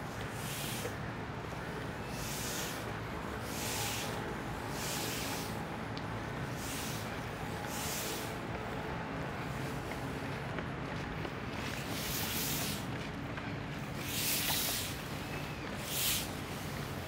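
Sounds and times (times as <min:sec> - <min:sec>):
footsteps on paved path: 0:00.0 - 0:17.0.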